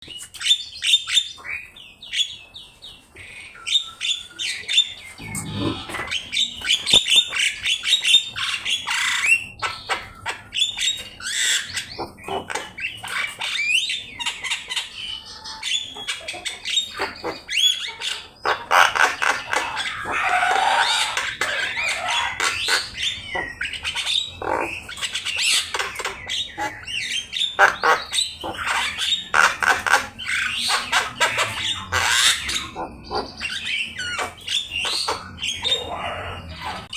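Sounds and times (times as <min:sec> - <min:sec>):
bird whistling and chattering: 0:04.2 - 0:36.9.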